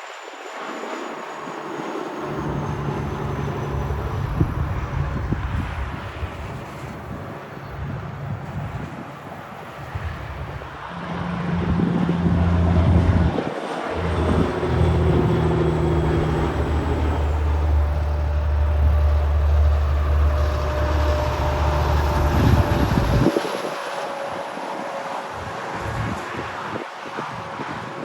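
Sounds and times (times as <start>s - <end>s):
truck diesel engine droning: 2.1s - 8.4s, 9.8s - 26.8s.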